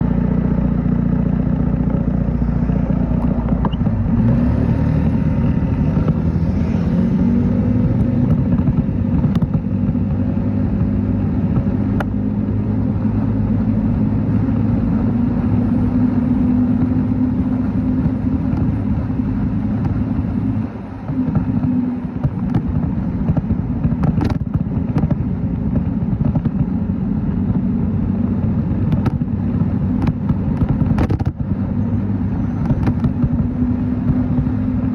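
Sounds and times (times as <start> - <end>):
motorcycle engine running: 0.0 - 34.9
road and wind rumble: 0.0 - 34.9.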